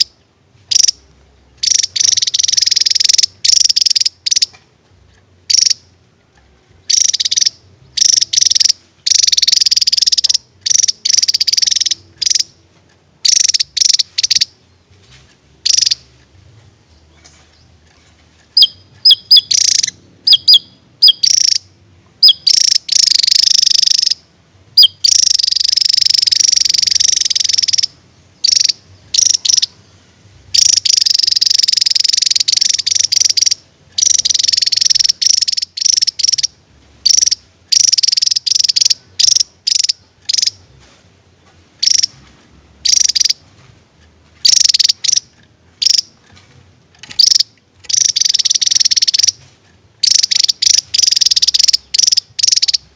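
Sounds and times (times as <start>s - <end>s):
bird singing buzzy trills: 0.0s - 4.6s, 5.4s - 43.5s, 44.4s - 46.3s, 47.0s - 52.9s.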